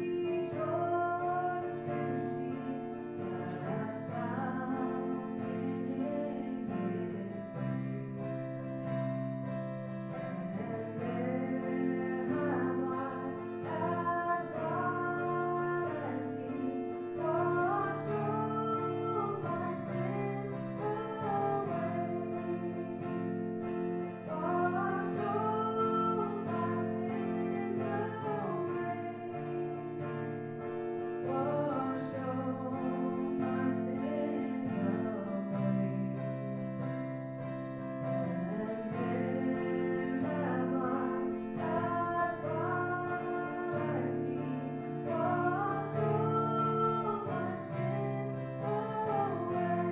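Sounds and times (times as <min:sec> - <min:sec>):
people singing: 0:00.0 - 0:09.2, 0:10.1 - 0:30.5, 0:31.2 - 0:37.2, 0:38.0 - 0:49.9
acoustic guitar: 0:00.0 - 0:49.9.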